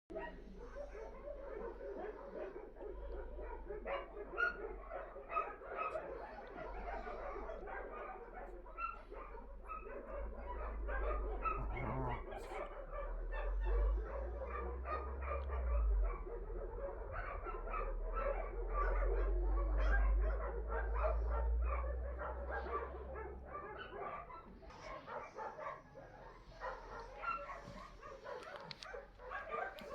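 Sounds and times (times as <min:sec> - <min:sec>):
many dogs barking and yipping: 0:00.1 - 0:29.9.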